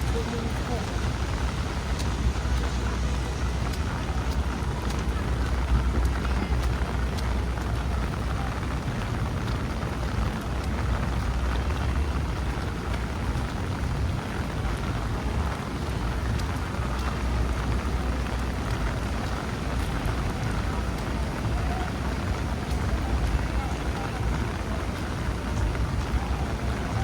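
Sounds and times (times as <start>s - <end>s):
low rumble: 0.0s - 27.0s
rain on street: 0.0s - 27.0s.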